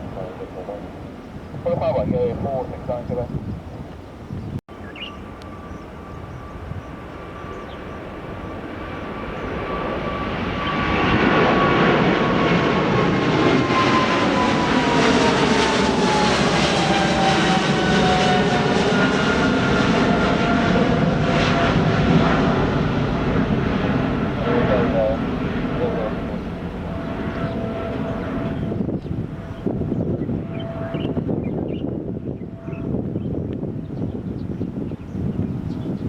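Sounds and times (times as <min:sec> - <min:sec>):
jet engines passing close by: 0:00.0 - 0:36.0
jet whine falling in pitch: 0:04.7 - 0:33.6.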